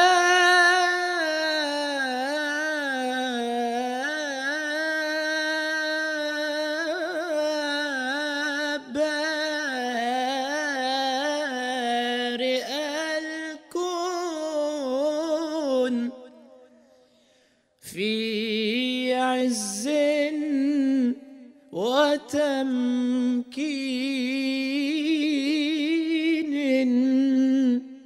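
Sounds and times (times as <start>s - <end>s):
young man singing melismatic chant: 0.0s - 16.9s, 17.8s - 28.0s.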